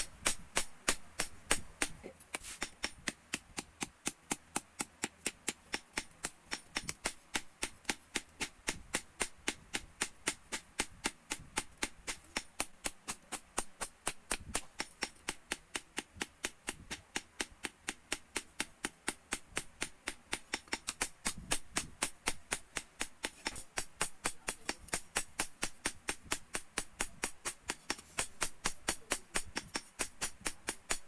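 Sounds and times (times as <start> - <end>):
hammer striking steel on anvil: 0.0 - 2.0, 2.6 - 3.2, 4.3 - 31.0.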